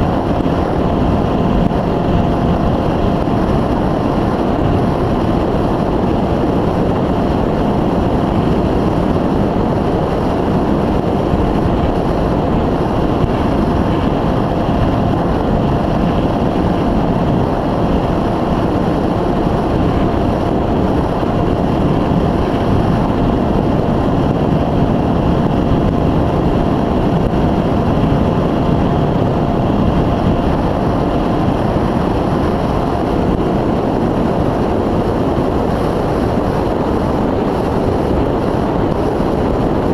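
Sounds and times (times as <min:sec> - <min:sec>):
electric motor and propeller whine: 0:00.0 - 0:39.9
wind noise over microphone: 0:00.0 - 0:39.9.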